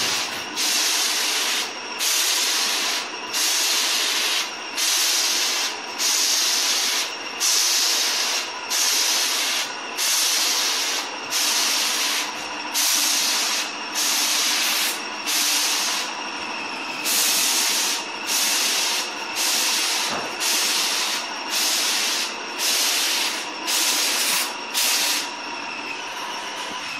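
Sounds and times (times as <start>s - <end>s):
spray gun hissing: 0.0s - 16.1s, 17.0s - 25.3s.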